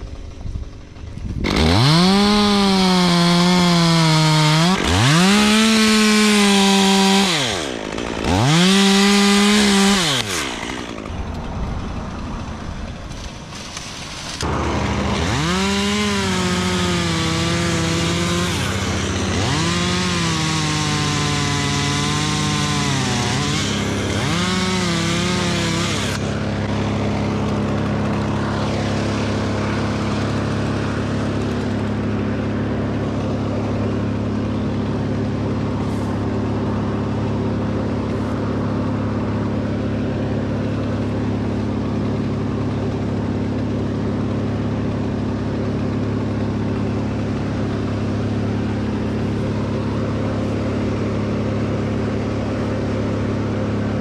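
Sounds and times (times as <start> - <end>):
chainsaw revving: 0.0 - 54.0
steady engine drone: 0.0 - 54.0.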